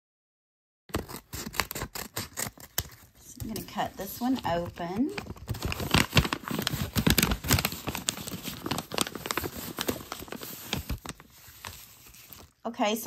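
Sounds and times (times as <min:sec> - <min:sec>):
paper crackling and rustling: 0:00.9 - 0:12.6.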